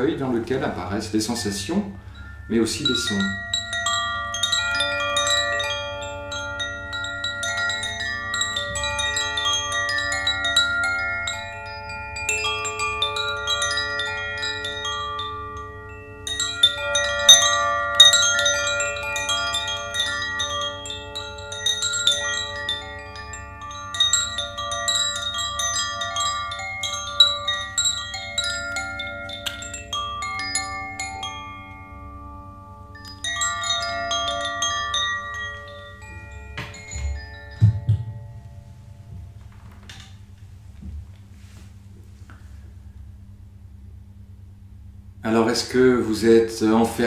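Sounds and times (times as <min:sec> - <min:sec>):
wind chimes ringing: 0:00.0 - 0:40.8.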